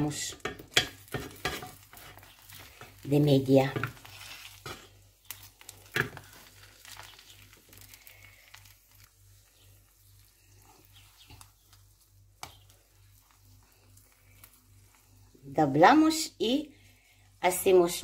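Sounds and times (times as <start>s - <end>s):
oil sizzling in frying pan: 0.0s - 15.4s.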